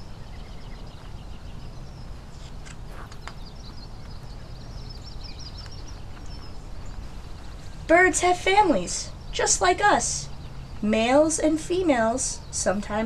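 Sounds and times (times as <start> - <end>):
small birds chirping and trilling: 0.0 - 13.0.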